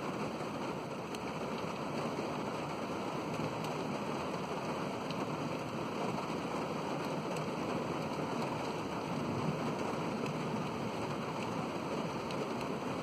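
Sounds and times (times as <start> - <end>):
steady rain hiss: 0.0 - 13.0
individual raindrop ticks: 0.9 - 13.0.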